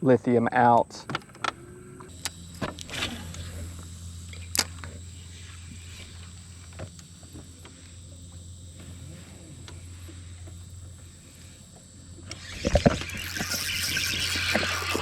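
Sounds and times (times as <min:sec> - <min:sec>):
electric trolling motor humming: 0:00.0 - 0:15.0.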